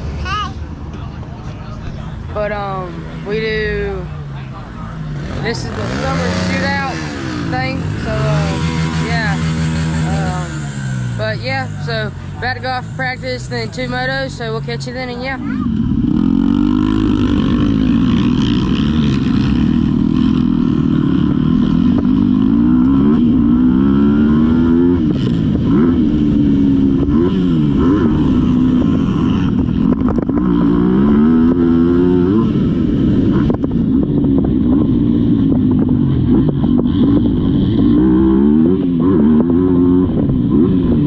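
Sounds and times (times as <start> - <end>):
dirt bike engine revving: 4.9 - 41.0.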